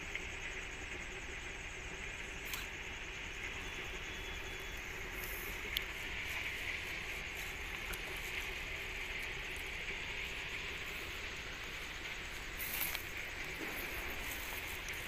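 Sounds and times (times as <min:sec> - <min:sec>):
outdoor hiss by open water: 0:00.0 - 0:15.0.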